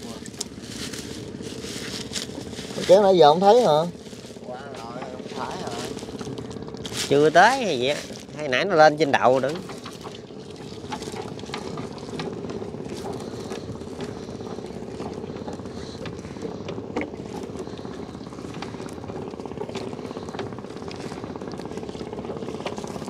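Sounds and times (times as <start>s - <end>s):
small engine droning: 0.0s - 23.0s.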